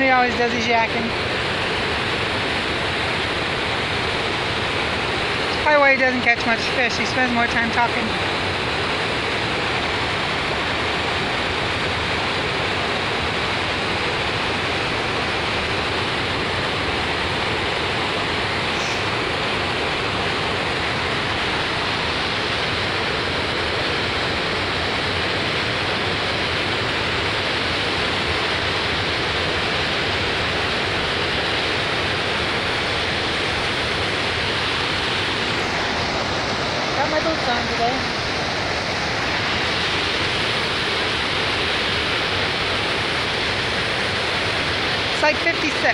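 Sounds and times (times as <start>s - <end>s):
water rushing over spillway: 0.0s - 45.9s.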